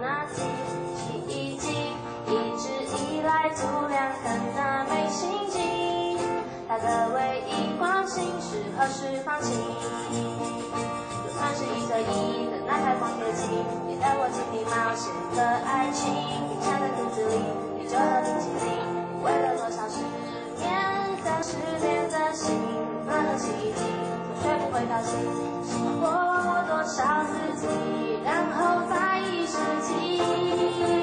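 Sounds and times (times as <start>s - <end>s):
cajon beat: 0.0s - 31.0s
strummed acoustic guitars: 0.0s - 31.0s
woman singing: 0.0s - 31.0s.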